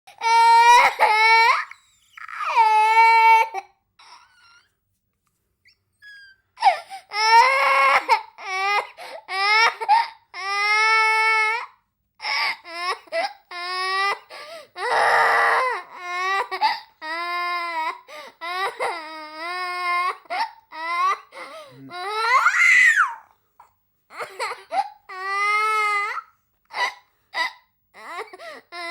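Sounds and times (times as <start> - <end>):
child crying and sobbing: 0.1 - 4.7, 6.0 - 23.3, 24.1 - 28.9.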